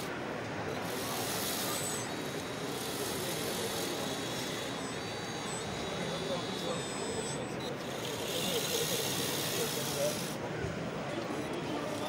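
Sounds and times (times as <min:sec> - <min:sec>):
model tractor running: 0:00.7 - 0:10.4.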